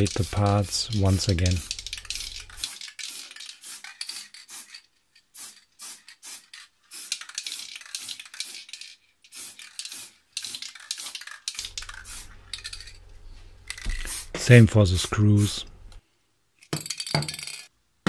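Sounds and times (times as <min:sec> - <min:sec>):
aerosol can ball rattling: 0:00.0 - 0:14.4, 0:16.6 - 0:17.7.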